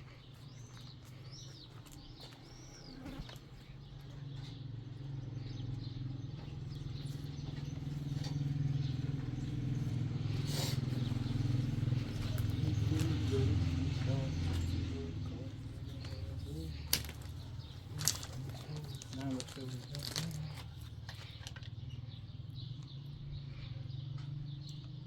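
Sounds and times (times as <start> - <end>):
bird chirps: 0.0 - 25.0
vehicle engine approaching: 0.0 - 25.0.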